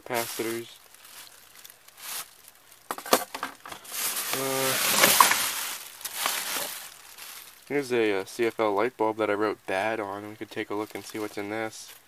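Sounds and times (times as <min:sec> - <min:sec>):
plastic bags rustling: 0:00.0 - 0:08.7, 0:09.7 - 0:12.0.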